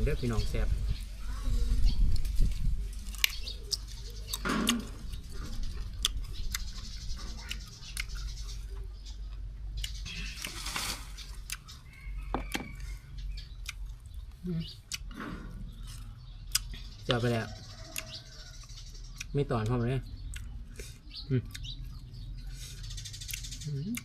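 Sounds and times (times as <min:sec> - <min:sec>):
chewing crunching: 0:02.1 - 0:24.0.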